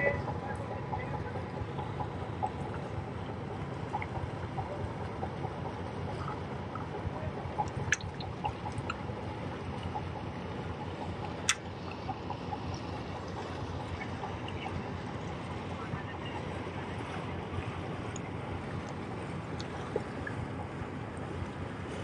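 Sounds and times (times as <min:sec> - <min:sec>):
water lapping against rocks: 0:00.3 - 0:22.0.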